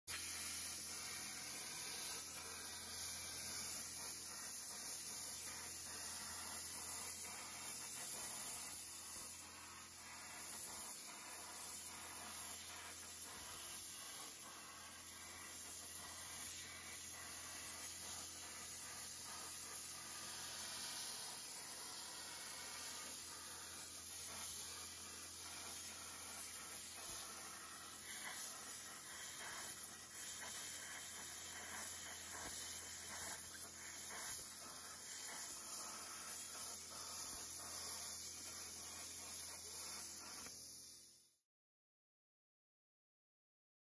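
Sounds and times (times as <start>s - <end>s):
plasma torch cutting metal: 0.1s - 41.4s.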